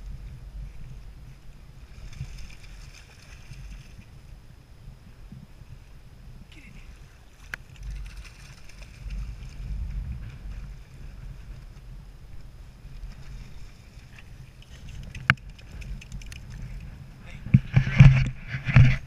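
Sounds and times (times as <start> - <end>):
wind rumbling on microphone: 0.0 - 19.0
water lapping at lake shore: 0.1 - 4.4, 5.5 - 17.2.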